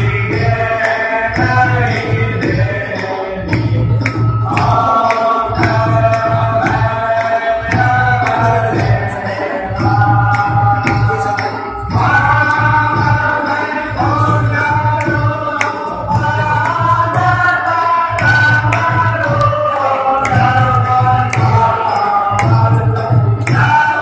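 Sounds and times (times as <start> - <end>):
pulsing drum: 0.0 - 24.0
sharp percussion strikes: 0.0 - 24.0.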